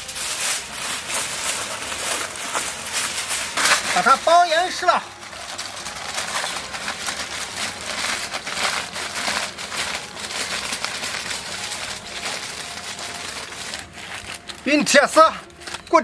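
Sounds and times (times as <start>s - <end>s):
aluminium foil crinkling: 0.0s - 16.0s.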